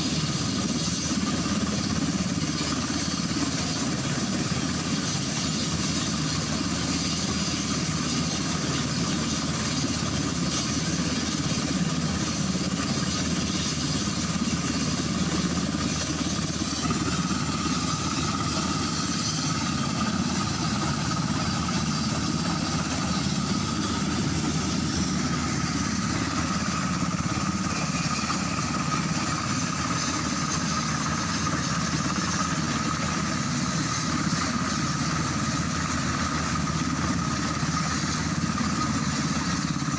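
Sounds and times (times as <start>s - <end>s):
helicopter engines idling: 0.0s - 39.9s
thin steady whine: 0.0s - 39.9s.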